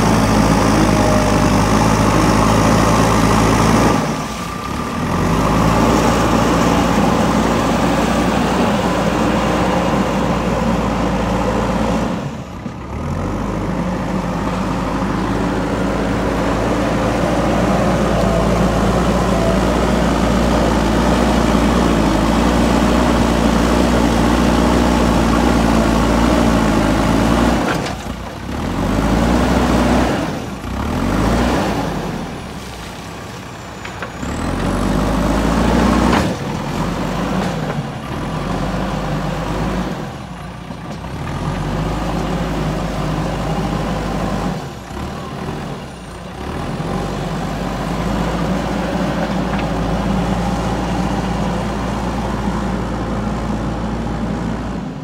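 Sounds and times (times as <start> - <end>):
diesel engine working hard: 0.0 - 55.0.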